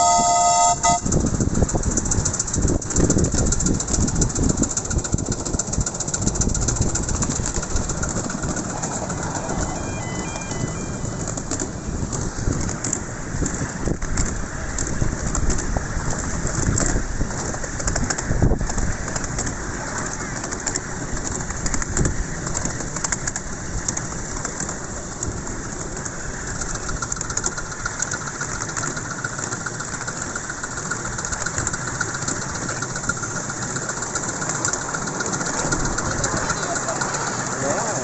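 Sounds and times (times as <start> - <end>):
train wheels clattering on rails: 0.0 - 38.0.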